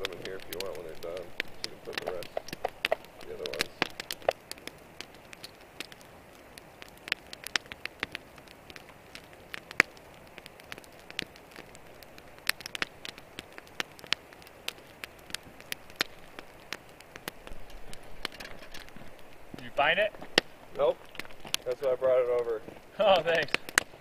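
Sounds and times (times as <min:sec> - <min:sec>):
faint steady hiss: 0:00.0 - 0:24.0
sharp crackles and pops: 0:00.0 - 0:24.0.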